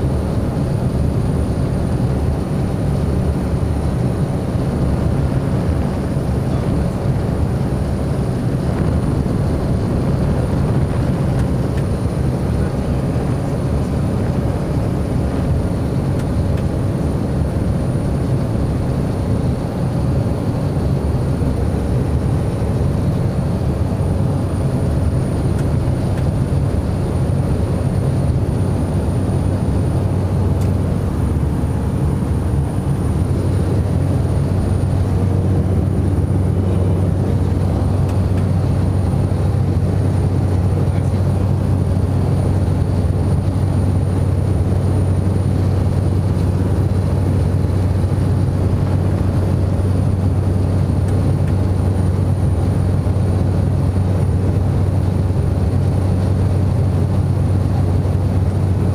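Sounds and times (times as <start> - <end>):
turboprop engine drone: 0.0 - 58.9.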